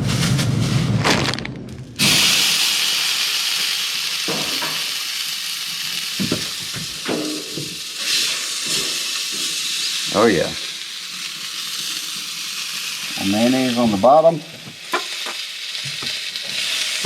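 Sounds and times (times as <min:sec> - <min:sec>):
burger patty sizzling: 0:00.0 - 0:17.0.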